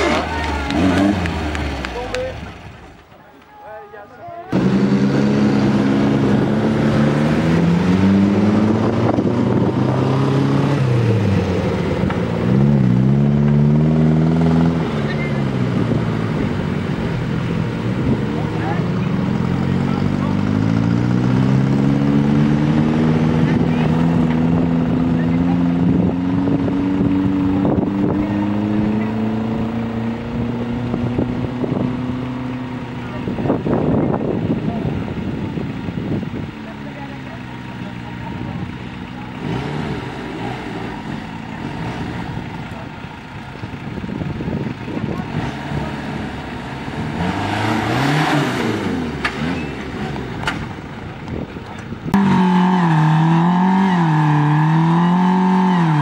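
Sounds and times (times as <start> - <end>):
buggy engine running under load: 0.0 - 56.0.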